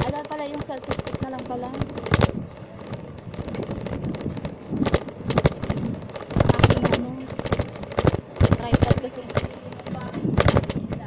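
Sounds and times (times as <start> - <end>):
bike and phone mount rattling: 0.0 - 11.0
wind buffeting microphone: 0.0 - 11.0.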